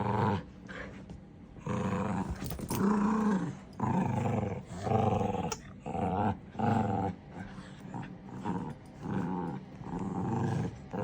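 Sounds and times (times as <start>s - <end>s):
puppies growling: 0.0s - 0.9s, 1.6s - 11.0s.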